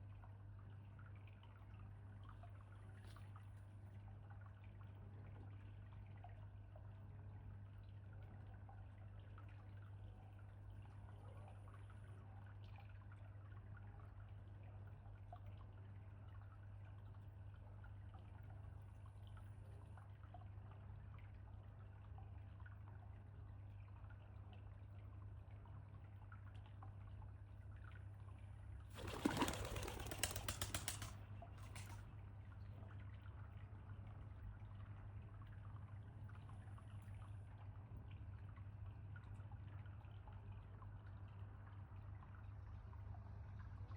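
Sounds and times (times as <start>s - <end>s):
faint water trickling: 0.0s - 43.9s.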